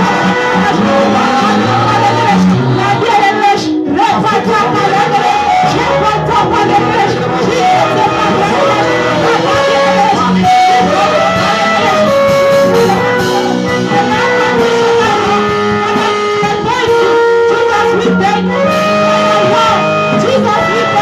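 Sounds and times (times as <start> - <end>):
instrumental guitar music: 0.0 - 21.0
steady bass line: 0.0 - 21.0.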